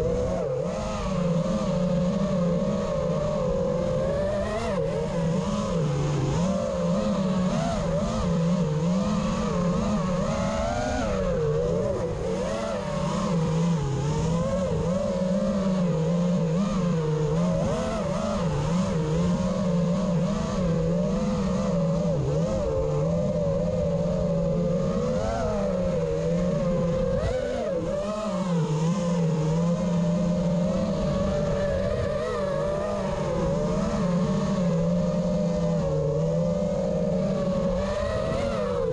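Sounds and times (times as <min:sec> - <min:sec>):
drone motors and propellers whining: 0:00.0 - 0:38.9.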